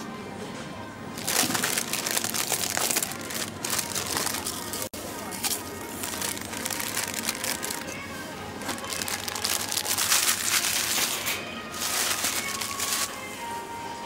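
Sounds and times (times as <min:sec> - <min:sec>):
light background music: 0:00.0 - 0:14.0
crunching and crinkling wrappers: 0:01.2 - 0:13.3.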